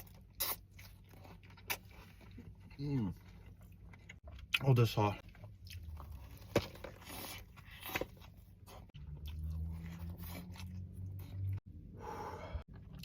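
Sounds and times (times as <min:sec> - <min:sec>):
person chewing and crunching: 0:00.0 - 0:11.7, 0:12.6 - 0:13.0.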